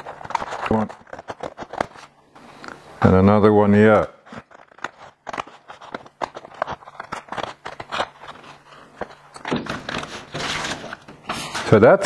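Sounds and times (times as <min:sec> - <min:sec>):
paper crinkling: 0:00.0 - 0:02.8, 0:04.1 - 0:12.0.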